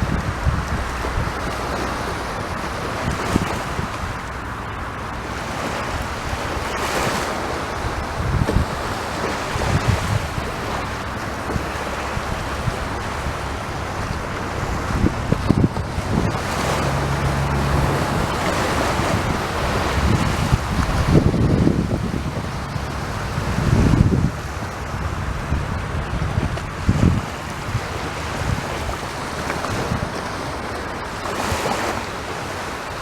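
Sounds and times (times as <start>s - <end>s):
sea surf breaking on shore: 0.0s - 33.0s
wind buffeting microphone: 0.0s - 33.0s.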